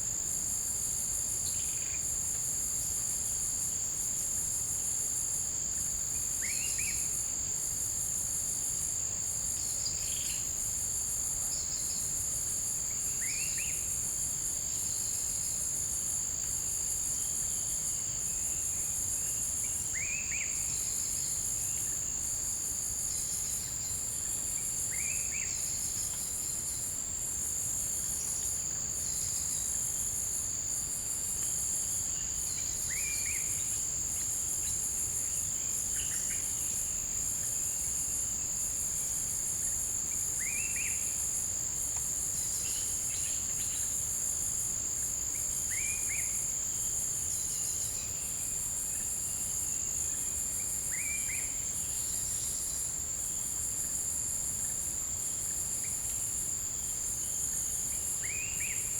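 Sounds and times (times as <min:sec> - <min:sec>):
insect drone: 0:00.0 - 0:58.9.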